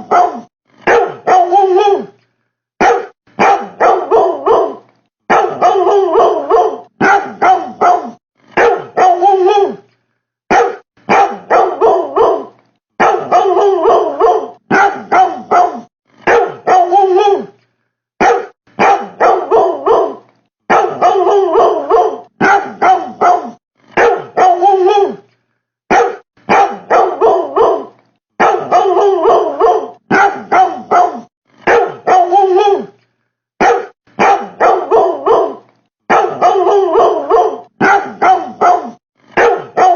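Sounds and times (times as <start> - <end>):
dog barking: 0.0 - 2.1, 2.8 - 9.8, 10.5 - 17.5, 18.2 - 25.2, 25.9 - 33.0, 33.6 - 39.9.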